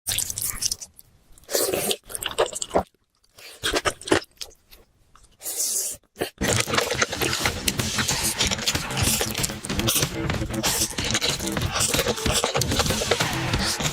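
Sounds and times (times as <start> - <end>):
chewing and crunching: 0.1 - 13.9.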